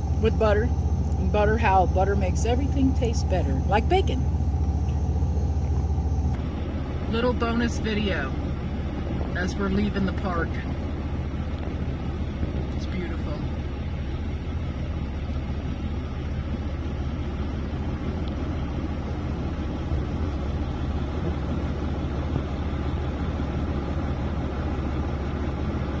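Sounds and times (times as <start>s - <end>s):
car cabin road and wind rumble: 0.0s - 26.0s.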